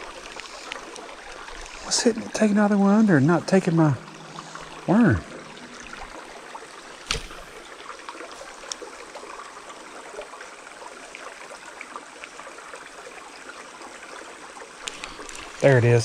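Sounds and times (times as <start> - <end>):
creek water babbling: 0.0 - 16.0.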